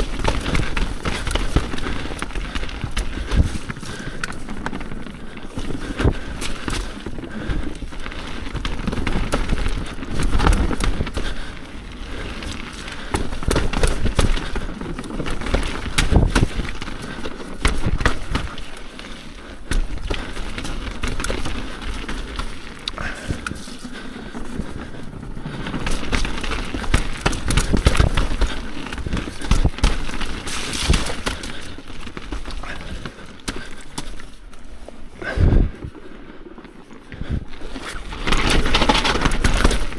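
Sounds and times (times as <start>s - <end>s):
bike frame rattle: 0.0s - 36.9s, 37.5s - 39.9s
bike tyres on wet ground: 0.0s - 39.9s.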